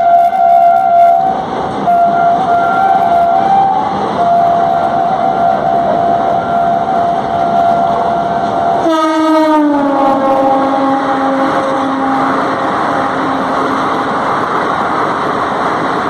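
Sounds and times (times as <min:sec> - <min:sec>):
locomotive horn blast: 0:00.0 - 0:13.8
freight train wagons running: 0:00.0 - 0:16.0.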